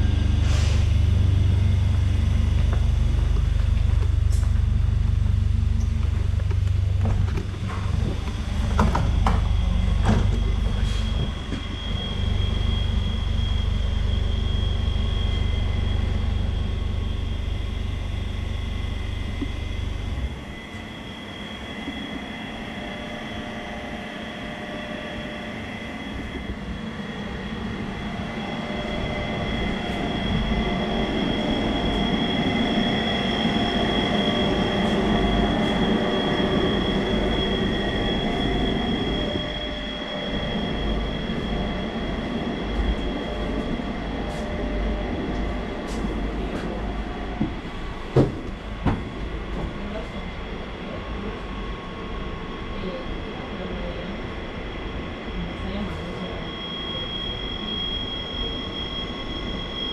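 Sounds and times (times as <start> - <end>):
train high whine: 0.0 - 59.9
wheels rumbling on rail: 0.0 - 59.9.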